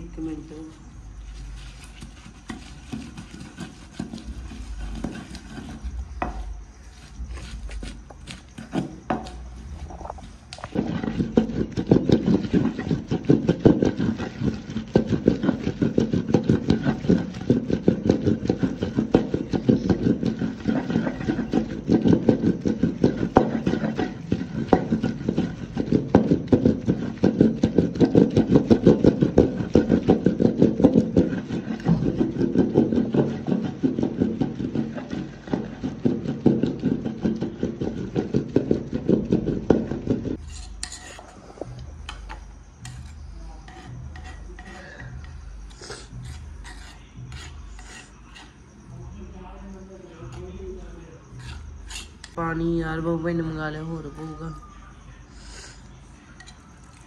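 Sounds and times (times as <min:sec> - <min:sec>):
wooden pestle grinding in mortar: 0:01.1 - 0:48.8, 0:51.3 - 0:52.4.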